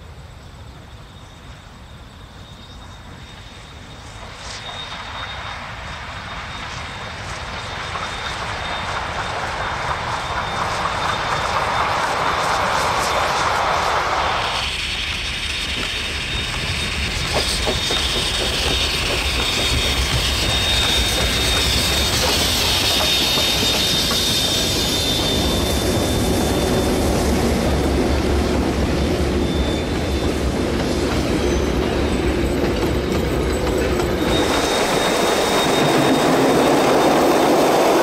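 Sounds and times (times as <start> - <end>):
steam locomotive passing: 0.0 - 38.0.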